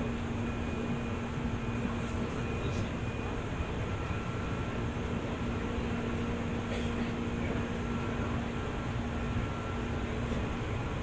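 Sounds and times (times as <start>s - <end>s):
constant electric hum: 0.0s - 11.0s.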